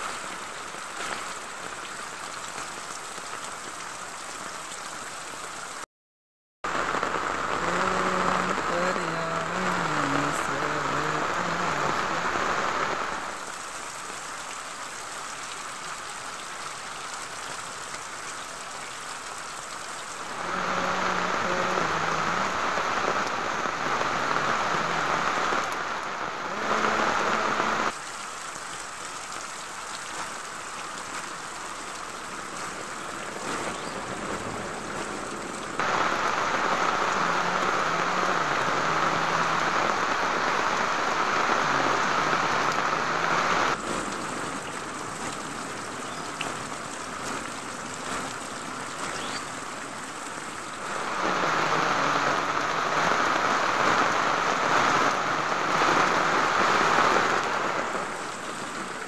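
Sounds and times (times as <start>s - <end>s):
rain falling on leafy plants: 0.0s - 5.9s, 6.6s - 59.0s.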